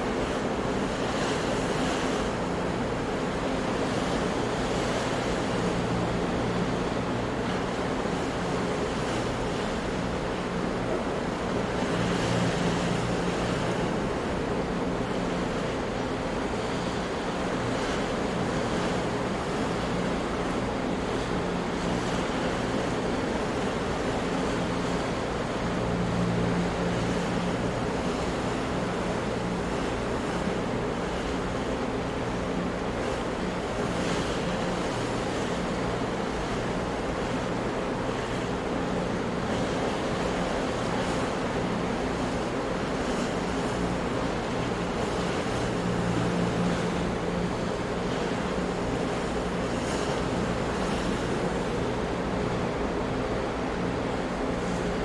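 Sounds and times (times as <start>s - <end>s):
ocean waves crashing: 0.0s - 55.0s.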